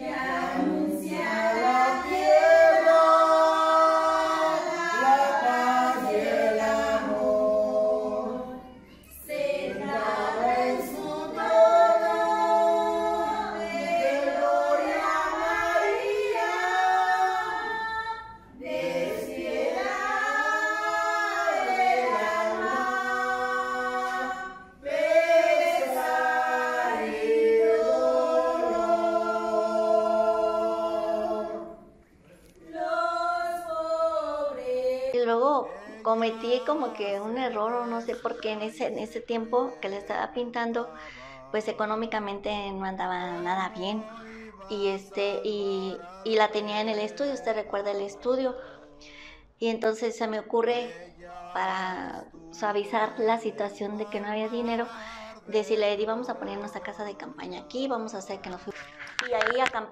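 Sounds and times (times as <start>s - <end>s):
group singing a hymn: 0.0s - 49.5s, 50.4s - 59.9s.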